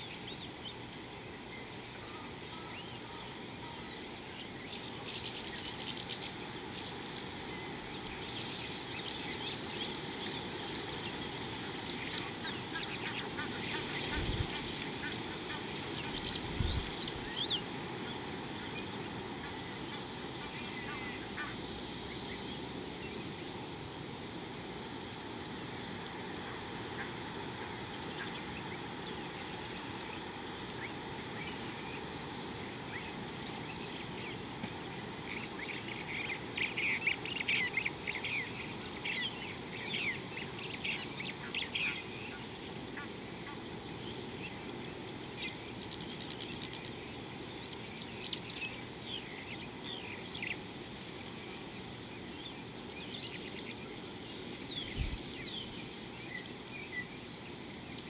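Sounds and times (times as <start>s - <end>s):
birds chirping: 0.0s - 58.0s
outdoor background noise: 0.0s - 58.0s.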